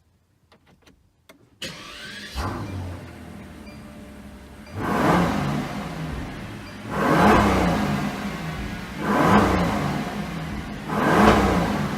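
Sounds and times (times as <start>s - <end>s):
car engine revving: 1.6s - 11.9s.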